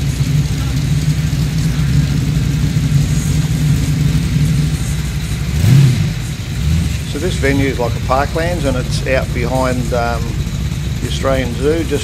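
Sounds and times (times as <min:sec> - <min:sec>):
car engine revving: 0:00.0 - 0:12.0
car engines idling: 0:00.0 - 0:12.0.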